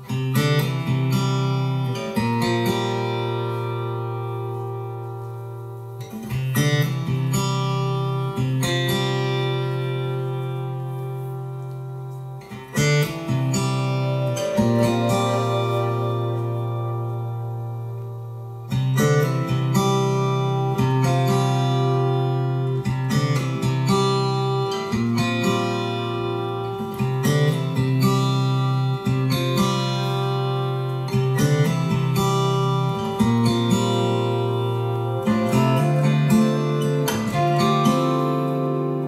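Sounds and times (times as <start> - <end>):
acoustic guitar strumming chords: 0.0 - 39.0.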